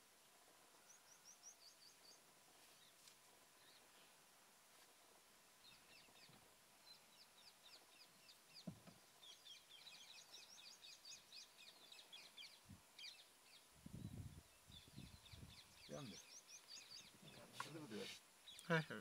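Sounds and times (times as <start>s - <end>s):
bird chirping: 0.8s - 3.0s, 5.6s - 19.0s.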